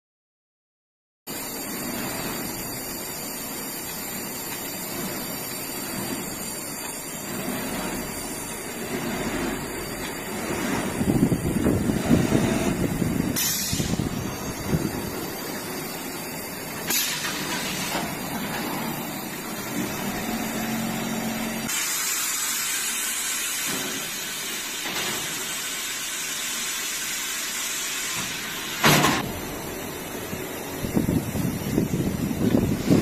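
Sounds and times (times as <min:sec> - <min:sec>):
pneumatic air hiss: 0:01.3 - 0:29.6
machinery running: 0:01.3 - 0:33.0.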